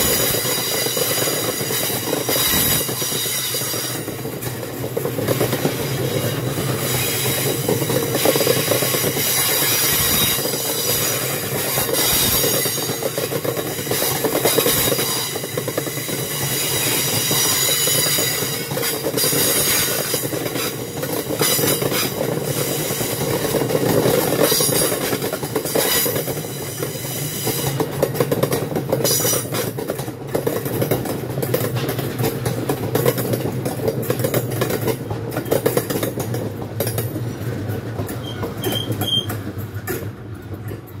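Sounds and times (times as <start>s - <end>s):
wheel screeching on rail: 0.0s - 28.0s, 28.9s - 29.7s, 34.2s - 40.8s
train rumble: 0.0s - 41.0s
wheels clattering over rail joints: 0.0s - 41.0s.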